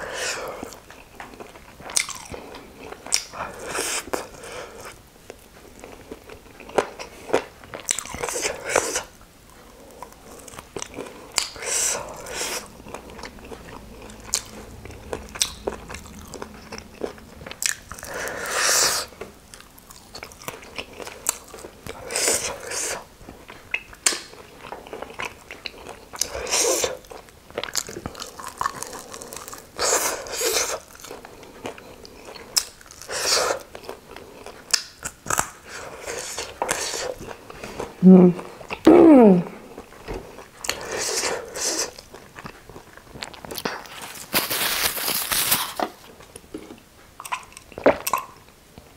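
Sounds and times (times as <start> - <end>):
crunchy chewing of fried chicken: 0.0 - 38.8, 39.6 - 48.9.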